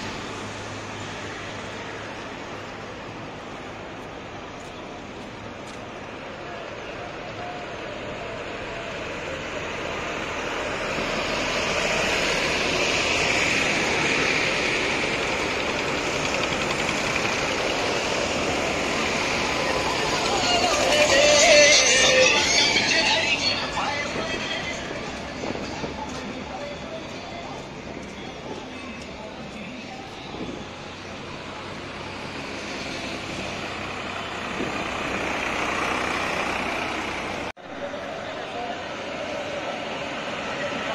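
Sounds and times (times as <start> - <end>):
tractors driving past: 0.0 - 40.9.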